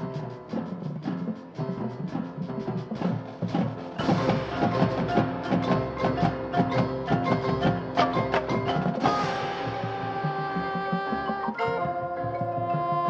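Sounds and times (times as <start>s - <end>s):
marching band music: 0.0s - 13.0s.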